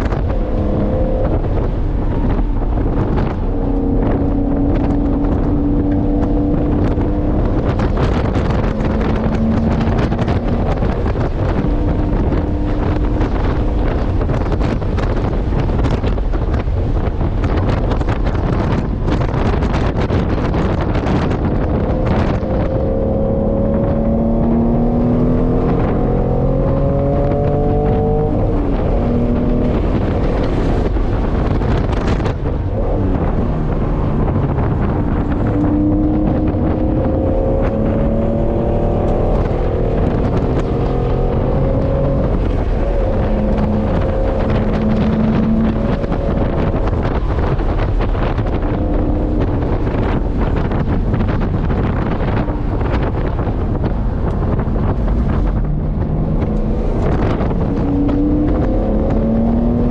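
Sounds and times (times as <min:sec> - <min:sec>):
road noise: 0:00.0 - 0:59.9
sports car engine accelerating: 0:00.0 - 0:59.9
wind noise: 0:00.0 - 0:59.9.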